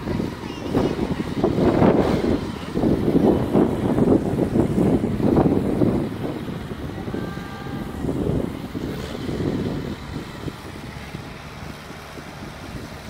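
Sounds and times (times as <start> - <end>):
combine harvester engine running: 0.0 - 13.0
wind gusting on microphone: 0.0 - 13.0.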